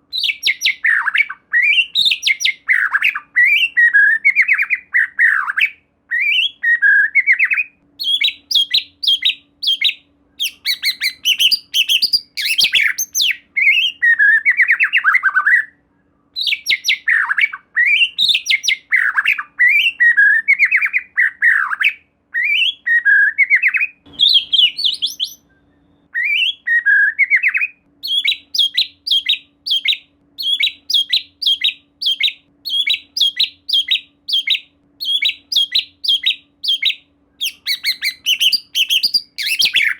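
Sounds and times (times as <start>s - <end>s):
bird singing rapid repeated notes: 0.0s - 39.9s.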